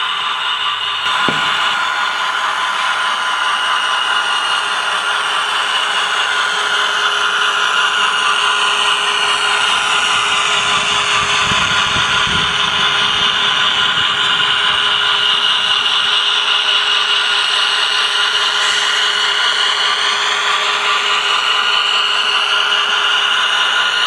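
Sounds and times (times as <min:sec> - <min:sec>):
model train motor whine: 0:00.0 - 0:24.0
model train rumble: 0:00.0 - 0:24.0.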